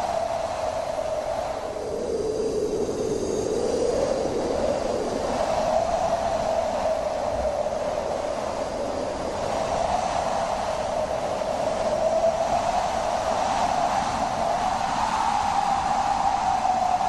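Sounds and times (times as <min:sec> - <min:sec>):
wind blowing: 0:00.0 - 0:17.0.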